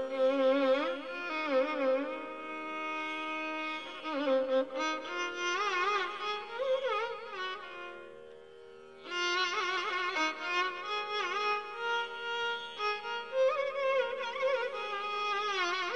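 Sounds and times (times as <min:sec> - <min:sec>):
bowed string melody: 0:00.0 - 0:15.9.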